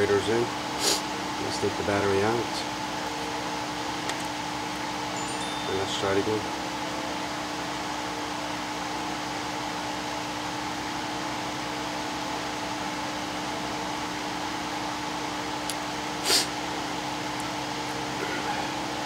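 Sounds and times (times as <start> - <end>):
fan whirring: 0.0 - 19.0
low electrical hum: 0.0 - 19.0.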